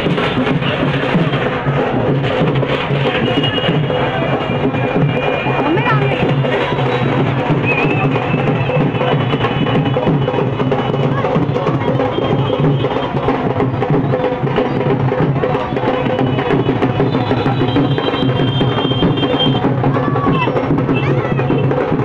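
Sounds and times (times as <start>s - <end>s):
loud music with drumming: 0.0s - 22.0s.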